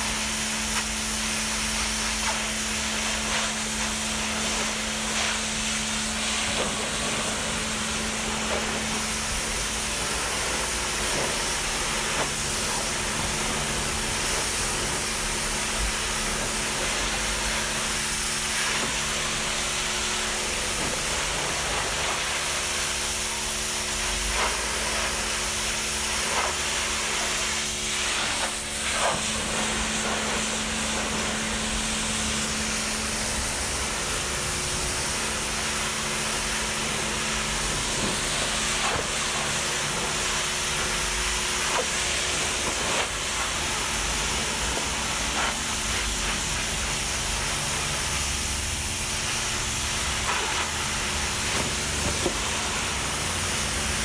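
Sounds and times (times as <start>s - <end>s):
hiss of spray or air: 0.0s - 54.0s.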